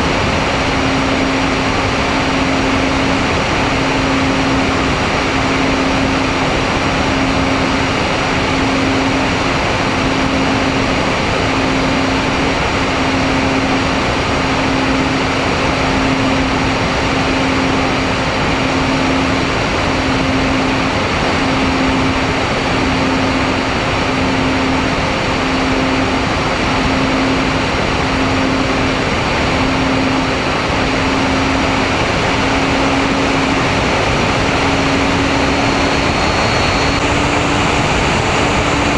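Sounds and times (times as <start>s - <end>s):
model plane propellers humming: 0.0s - 38.9s.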